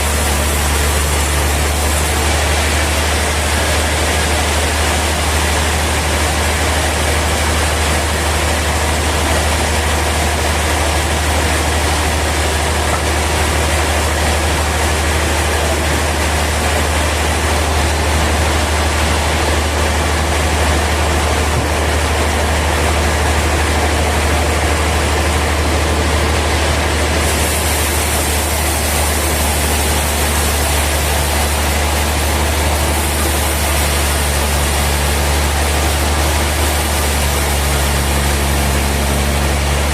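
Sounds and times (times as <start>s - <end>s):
sawmill machinery deep hum: 0.0s - 39.9s.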